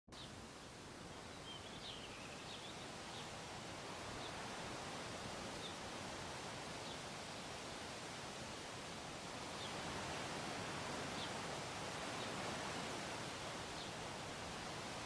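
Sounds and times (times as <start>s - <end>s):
steady background hiss: 0.2s - 15.0s.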